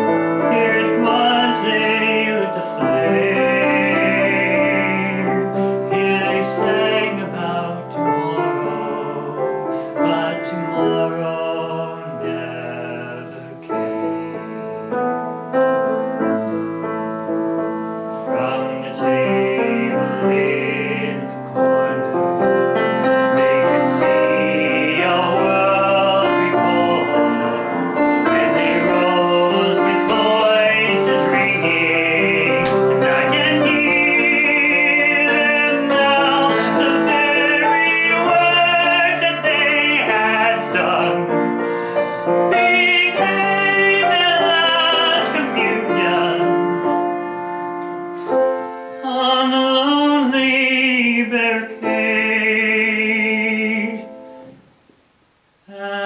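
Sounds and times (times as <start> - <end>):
man singing operatic ballad: 0.0 - 47.7, 48.4 - 54.4, 55.6 - 56.0
piano accompaniment: 0.0 - 54.9.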